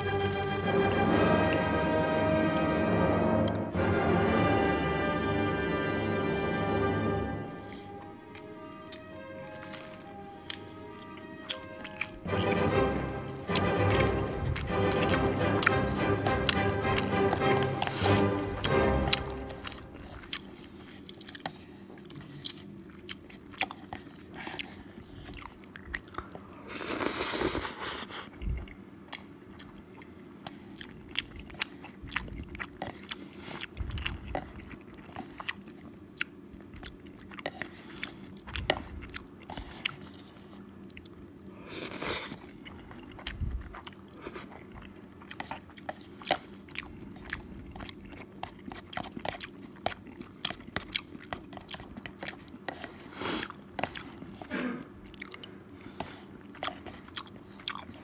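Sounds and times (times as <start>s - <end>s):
wet chewing and smacking: 7.9s - 26.7s, 28.1s - 58.0s.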